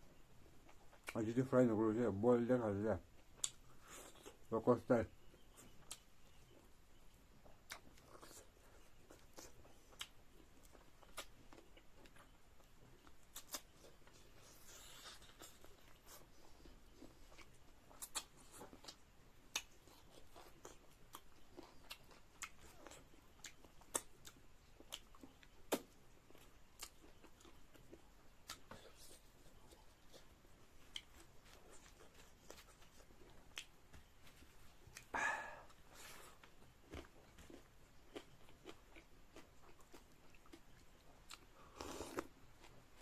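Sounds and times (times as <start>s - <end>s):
chewing crunches and mouth clicks: 0.4s - 1.2s, 3.2s - 4.5s, 5.3s - 43.0s.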